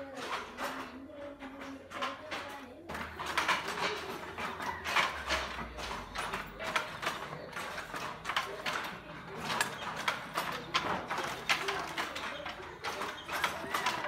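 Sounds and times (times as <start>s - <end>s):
weaving looms clacking: 0.0s - 14.0s.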